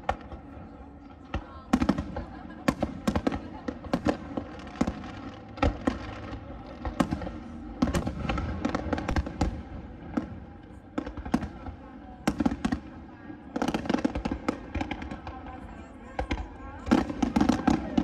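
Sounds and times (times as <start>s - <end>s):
steady noisy background: 0.0s - 18.0s
fireworks bangs: 1.2s - 18.0s.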